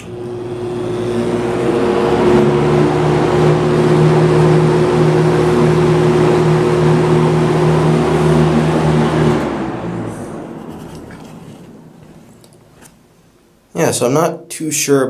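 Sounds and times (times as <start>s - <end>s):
box fan air rush: 0.0s - 13.3s
fan motor hum: 0.0s - 14.3s.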